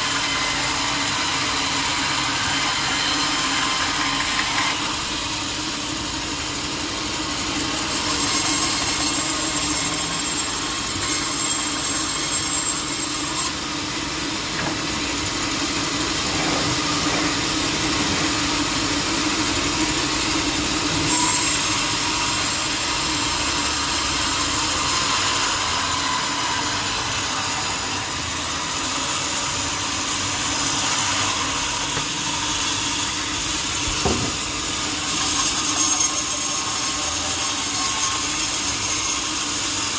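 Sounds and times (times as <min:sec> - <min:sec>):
sawmill saw sawing log: 0:00.0 - 0:39.9.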